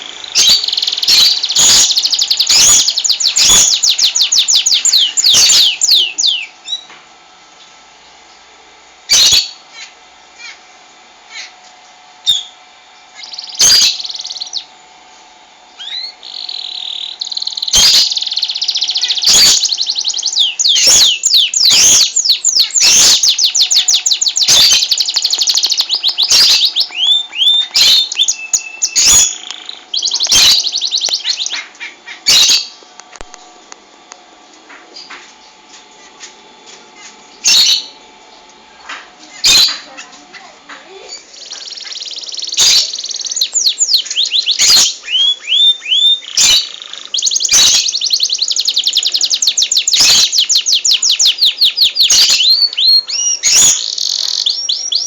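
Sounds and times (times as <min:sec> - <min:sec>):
canary singing trills: 0:00.0 - 0:06.9, 0:09.1 - 0:11.6, 0:12.2 - 0:14.8, 0:15.8 - 0:32.8, 0:36.9 - 0:55.0.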